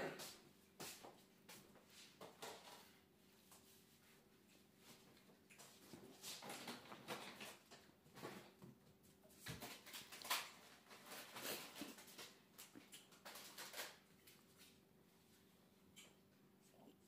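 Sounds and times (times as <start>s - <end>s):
puppy paws pattering on floor: 0.1s - 17.0s.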